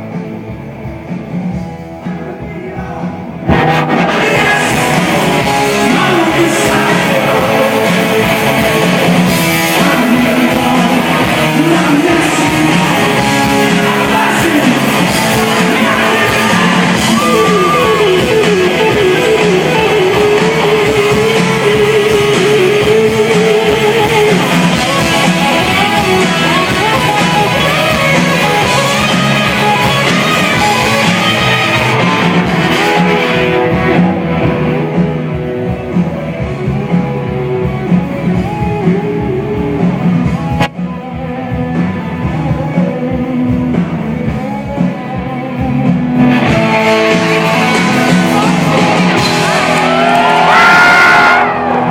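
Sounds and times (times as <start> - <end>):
electric guitars: 0.0 - 51.9
live rock band playing: 0.0 - 51.9
person singing: 1.6 - 35.2, 40.9 - 51.7.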